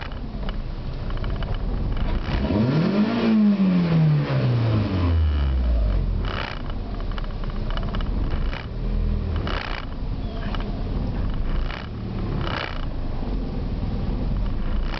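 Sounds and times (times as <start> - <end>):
car engine surging idle: 0.0 - 14.9.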